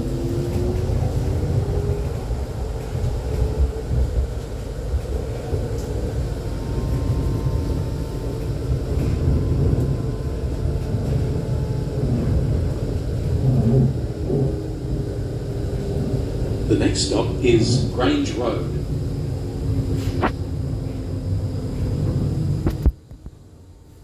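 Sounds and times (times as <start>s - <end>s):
tram wheels rumbling on rail: 0.0s - 24.0s.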